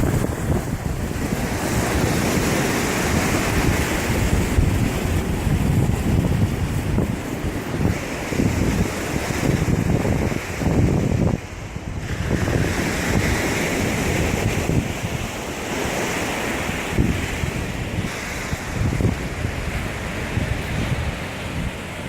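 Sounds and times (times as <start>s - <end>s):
sea surf washing on shore: 0.0s - 22.0s
wind rumbling on microphone: 0.0s - 22.0s.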